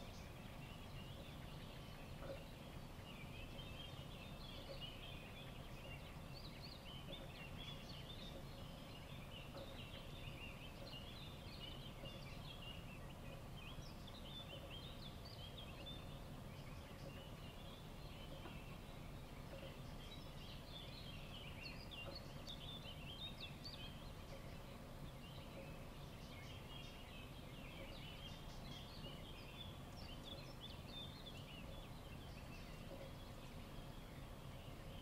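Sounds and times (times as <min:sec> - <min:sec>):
small birds twittering: 0:00.0 - 0:35.0.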